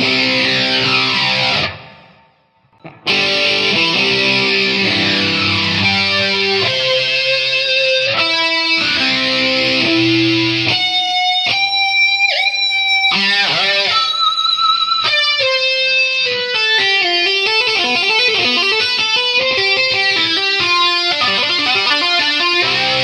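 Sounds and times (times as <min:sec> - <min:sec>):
guitar background music: 0:00.0 - 0:23.0.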